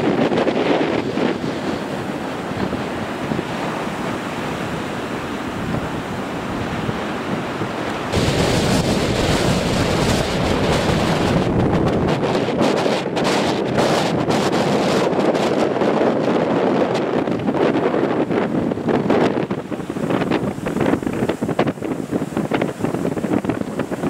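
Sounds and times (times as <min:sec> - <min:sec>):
storm wind buffeting microphone: 0:00.0 - 0:24.0
surf breaking on beach: 0:00.0 - 0:24.0.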